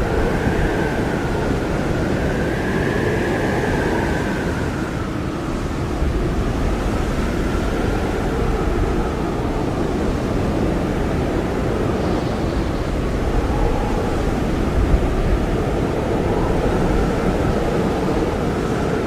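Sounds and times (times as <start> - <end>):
blizzard wind blowing hard: 0.0 - 19.0.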